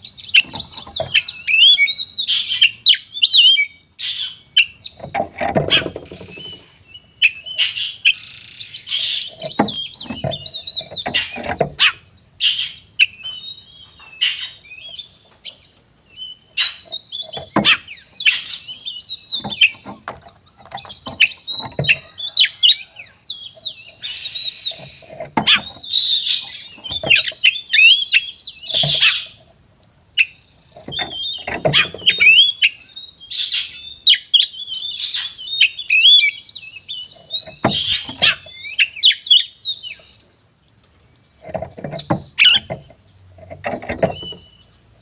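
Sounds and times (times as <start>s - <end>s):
magpie-robin singing: 0.0s - 29.4s, 30.1s - 40.4s, 41.4s - 44.8s.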